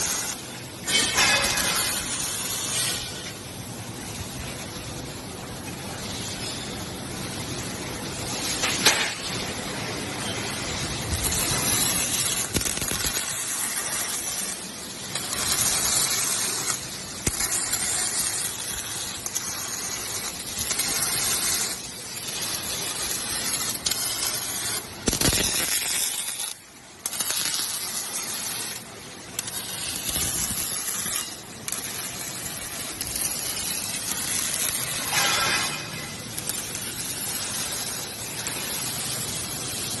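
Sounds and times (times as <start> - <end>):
electric arc welding hissing: 0.0 - 40.0.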